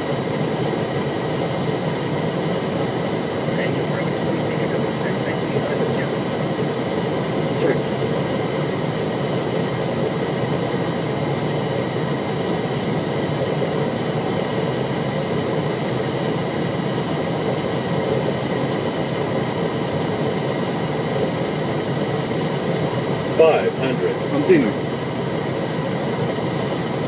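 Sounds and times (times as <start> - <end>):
airflow and engine rush: 0.0 - 27.0.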